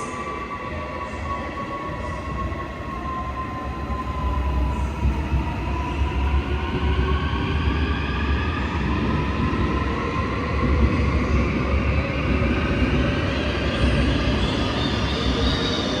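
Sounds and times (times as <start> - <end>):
low train rumble: 0.0 - 16.0
subway train whine: 0.0 - 16.0.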